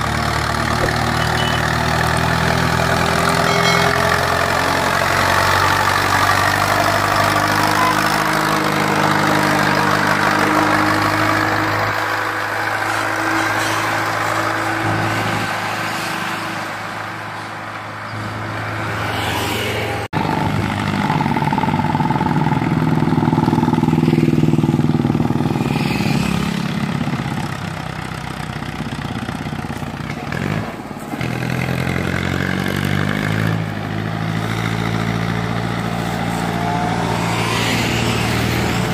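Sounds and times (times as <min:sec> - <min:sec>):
tractor engines labouring: 0:00.0 - 0:38.9.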